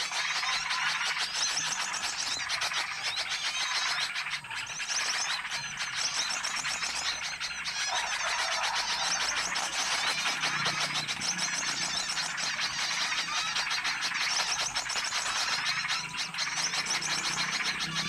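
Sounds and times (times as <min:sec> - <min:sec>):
chorus of small birds chirping: 0:00.0 - 0:18.0.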